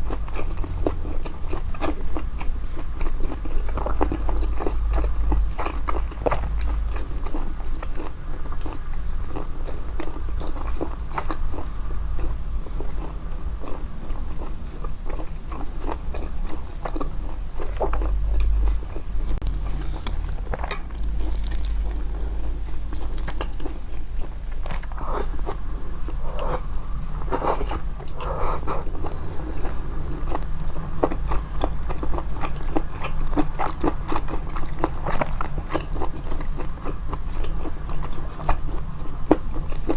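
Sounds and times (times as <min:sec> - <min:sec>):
close-miked chewing noodles: 0:00.0 - 0:39.9.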